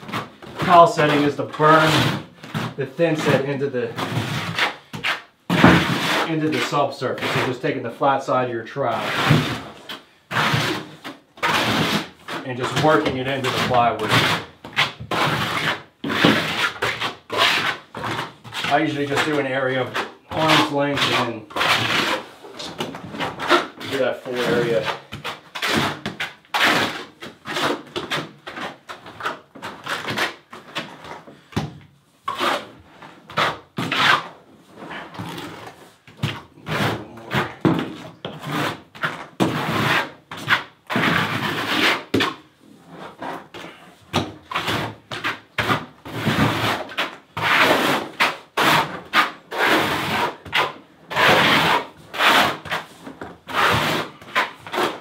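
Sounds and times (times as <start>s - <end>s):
trowel scraping mortar: 0.1s - 7.7s, 8.9s - 31.2s, 32.3s - 55.0s.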